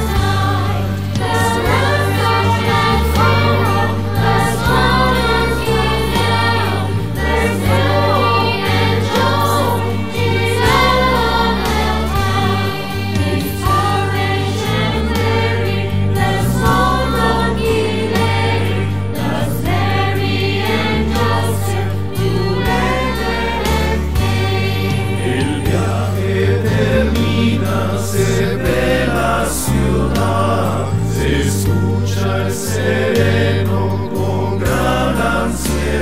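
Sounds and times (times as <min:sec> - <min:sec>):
church choir singing: 0:00.0 - 0:36.0.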